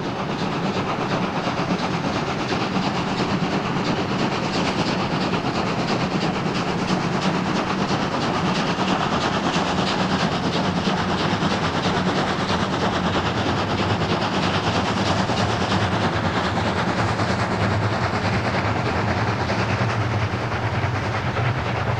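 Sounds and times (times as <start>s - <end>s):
steam locomotive exhaust beating: 0.0s - 21.9s.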